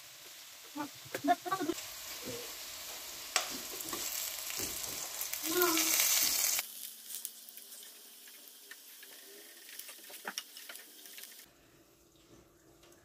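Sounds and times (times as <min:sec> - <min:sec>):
oil sizzling in a frying pan: 0:00.0 - 0:11.5.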